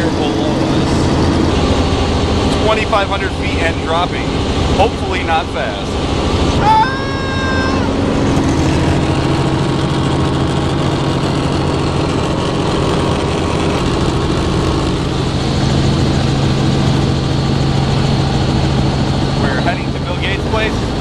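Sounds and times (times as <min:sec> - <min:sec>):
helicopter rotor and engine drone: 0:00.0 - 0:21.0.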